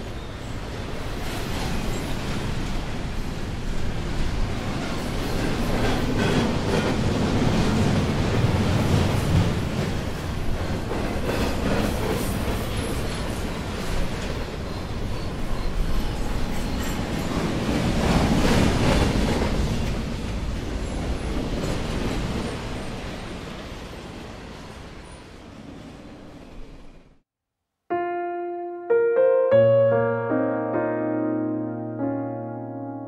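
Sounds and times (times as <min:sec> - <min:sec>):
train running on rails: 0:00.0 - 0:27.2.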